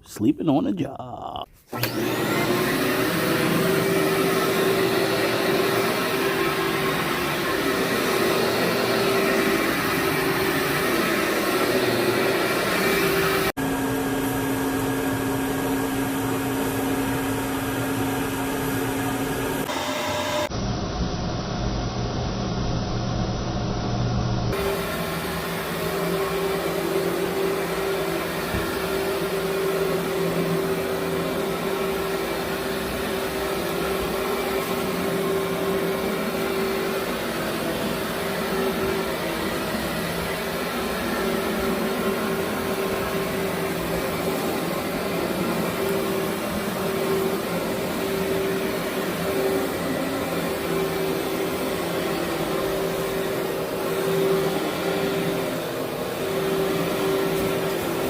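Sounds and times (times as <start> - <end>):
vacuum cleaner running: 1.6 - 58.0.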